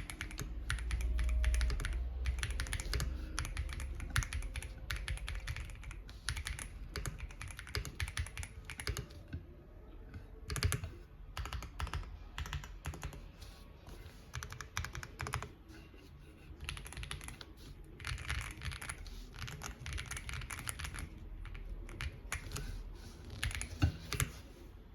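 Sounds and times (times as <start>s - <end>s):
mechanical keyboard typing: 0.0s - 9.2s, 10.5s - 13.3s, 14.3s - 15.6s, 16.6s - 24.4s.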